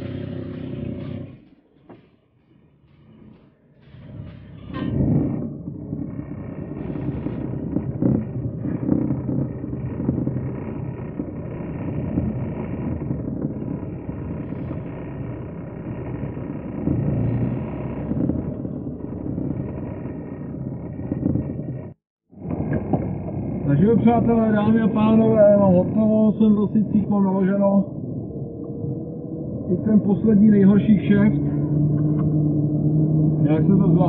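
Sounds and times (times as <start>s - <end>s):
truck diesel engine rumbling: 0.0s - 34.0s.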